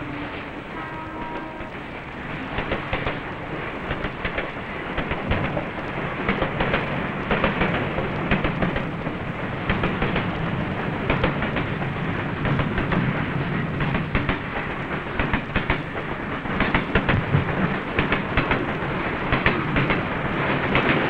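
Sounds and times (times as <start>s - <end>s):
train rumbling past: 0.0s - 21.0s
wheels clattering on rails: 0.0s - 21.0s.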